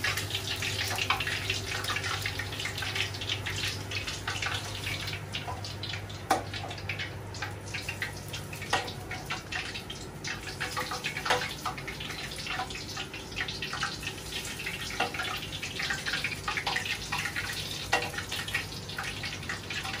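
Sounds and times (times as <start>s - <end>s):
hot oil sizzling: 0.0s - 20.0s
oil popping: 0.0s - 20.0s.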